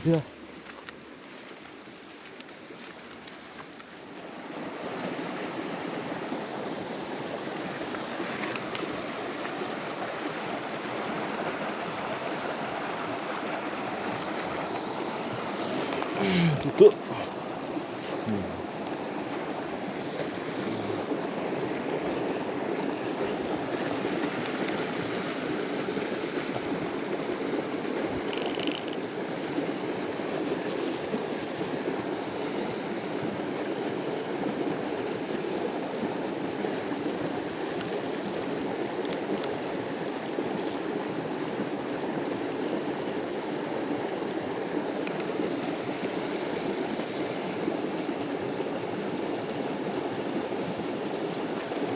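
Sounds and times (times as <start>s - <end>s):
creek water flowing: 0.0s - 51.9s.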